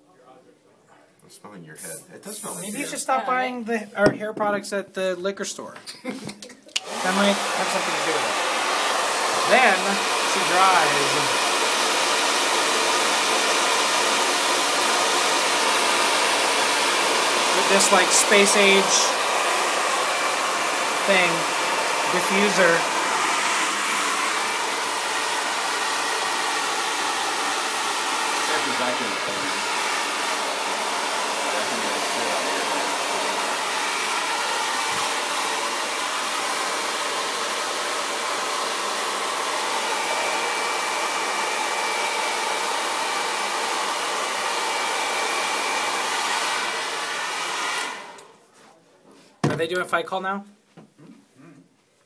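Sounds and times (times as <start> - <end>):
hair dryer blowing: 2.3 - 3.5, 6.8 - 48.4.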